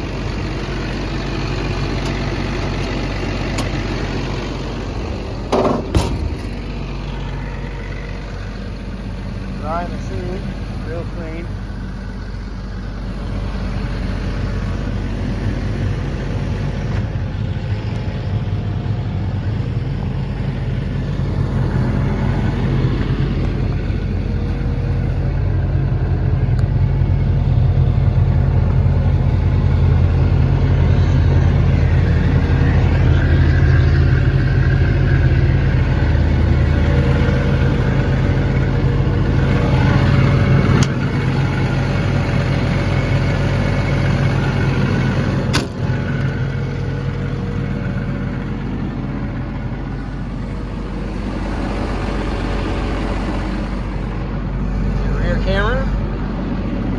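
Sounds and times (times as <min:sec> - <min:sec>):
excavator diesel engine idling: 0:00.0 - 0:56.9.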